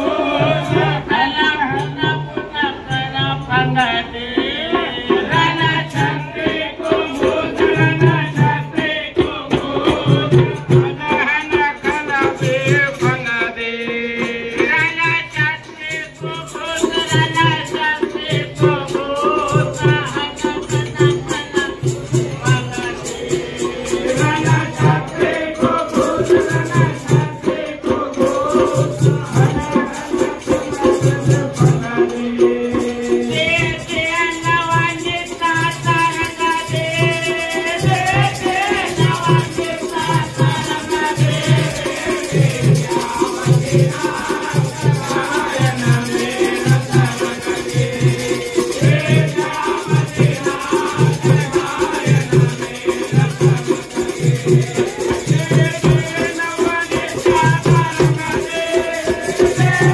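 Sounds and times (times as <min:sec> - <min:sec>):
jingling rattling percussion: 0:00.0 - 0:59.9
people singing: 0:00.0 - 0:59.9
drum beat: 0:04.5 - 0:59.9.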